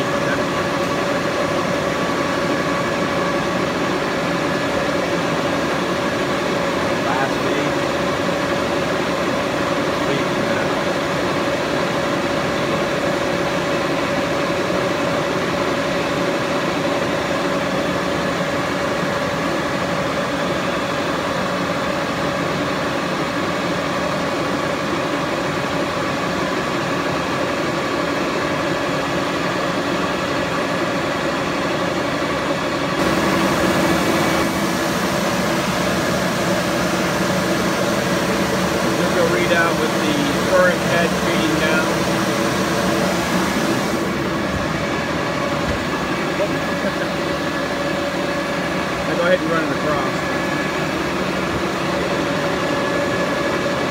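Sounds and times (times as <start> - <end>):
lathe mechanical hum: 0.0 - 53.9.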